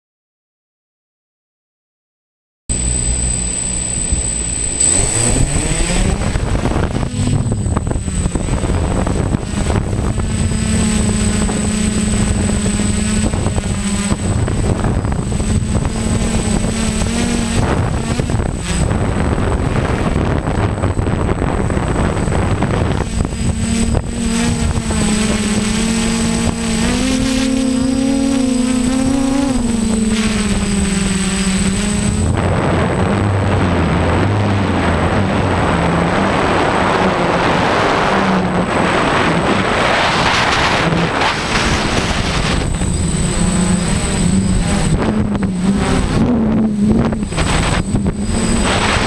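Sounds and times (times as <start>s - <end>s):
multi-rotor drone hum: 2.7s - 49.0s
wind noise on microphone: 2.7s - 49.0s.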